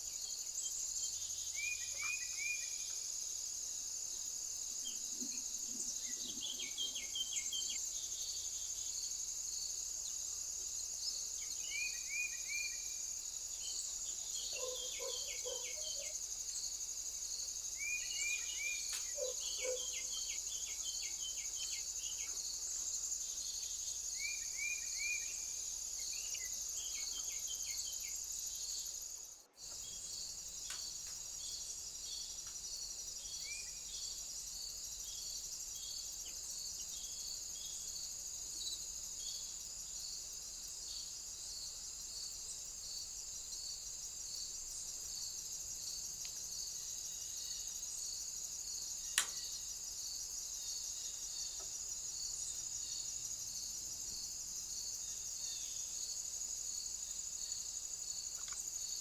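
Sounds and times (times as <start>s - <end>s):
cricket and insect chorus: 0.0s - 59.0s.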